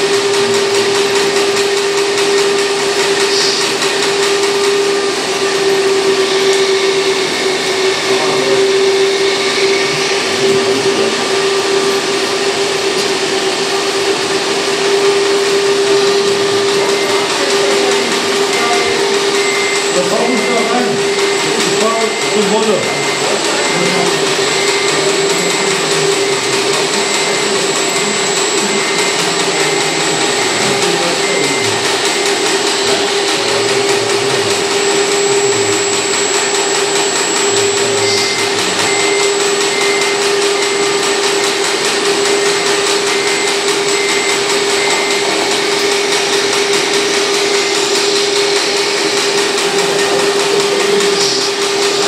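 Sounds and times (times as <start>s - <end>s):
hydraulic pump whining: 0.0s - 52.0s.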